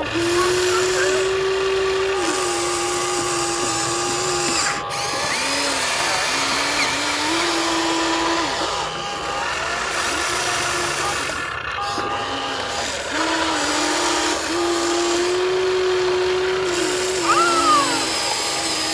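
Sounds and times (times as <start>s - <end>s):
toy electric motor whining: 0.0s - 18.9s.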